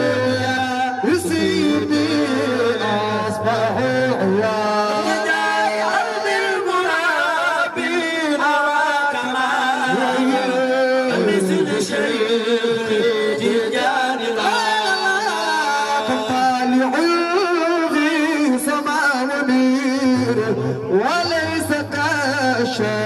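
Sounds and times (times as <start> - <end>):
men singing a religious chant: 0.0 - 23.0.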